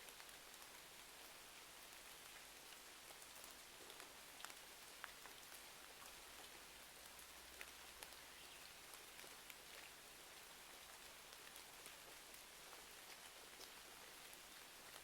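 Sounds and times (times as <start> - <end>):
faint rain hiss: 0.0 - 15.0.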